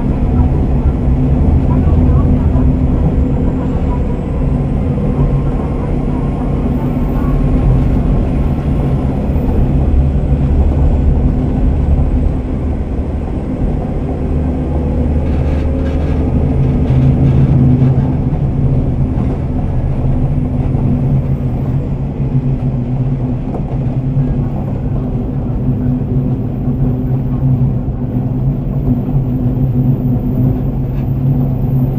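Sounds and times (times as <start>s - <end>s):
muffled diesel railcar drone: 0.0s - 31.9s.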